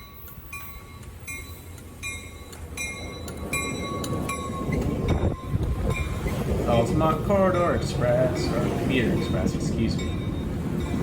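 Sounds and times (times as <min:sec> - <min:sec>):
bell ringing: 0:00.0 - 0:11.0
train rumble: 0:00.0 - 0:11.0.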